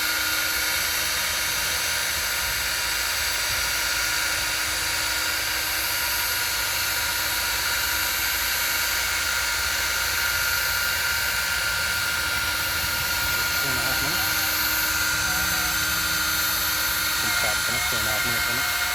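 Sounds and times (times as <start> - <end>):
powered driver mechanical whine: 0.0 - 18.9.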